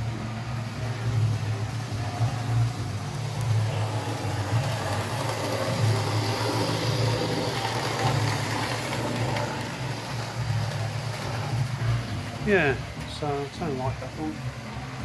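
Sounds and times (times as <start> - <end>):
electric motor hum: 0.0 - 15.0
model train wheels on rails: 0.0 - 15.0.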